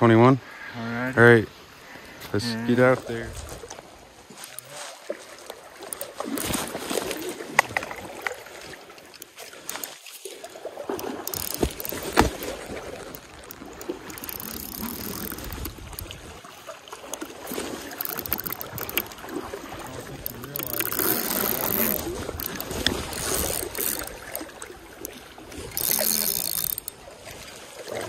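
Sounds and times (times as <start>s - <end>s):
water sloshing around wading legs: 2.8s - 28.0s.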